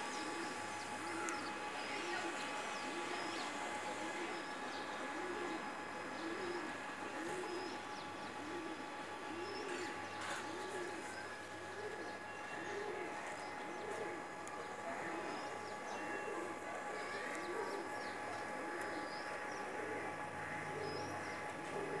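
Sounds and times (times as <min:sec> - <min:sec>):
pigeon cooing: 0:00.0 - 0:22.0.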